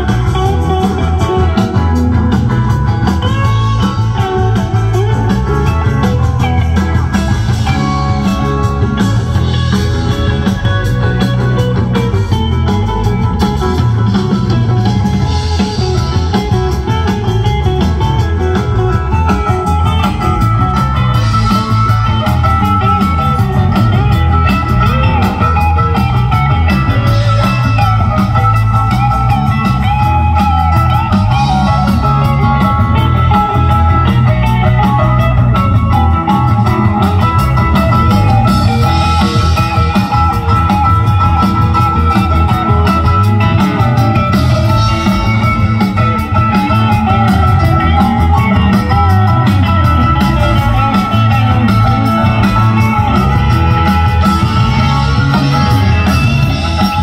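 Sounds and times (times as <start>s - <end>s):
bass guitar: 0.0s - 57.0s
drums: 0.0s - 57.0s
electric guitar: 0.0s - 57.0s.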